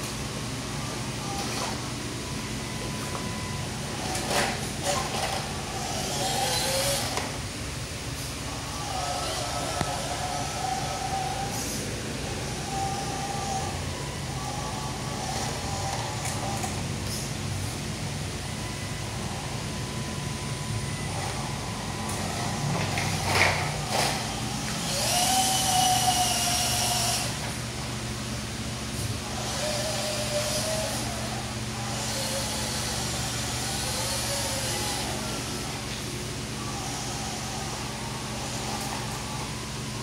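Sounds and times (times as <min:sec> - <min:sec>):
electric motor and gearbox whining: 0:00.0 - 0:40.0.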